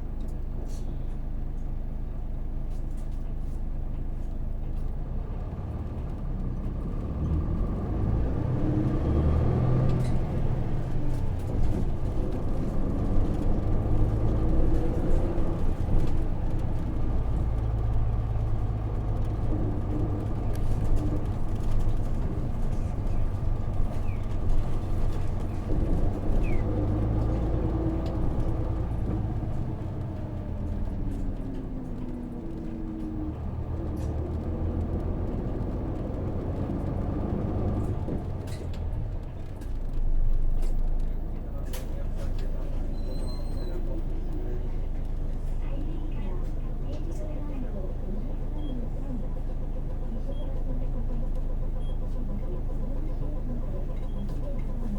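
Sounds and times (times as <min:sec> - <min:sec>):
bus diesel engine droning: 0:00.0 - 0:54.9.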